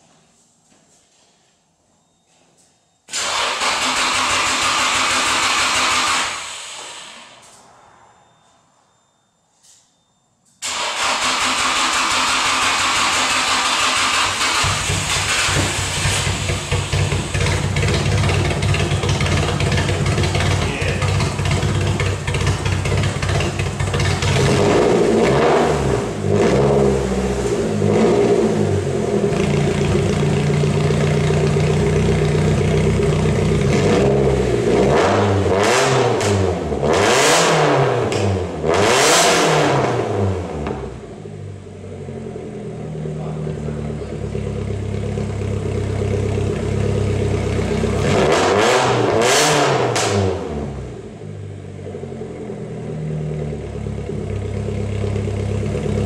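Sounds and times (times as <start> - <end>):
car engine idling and revving: 3.2 - 7.6, 10.6 - 56.0.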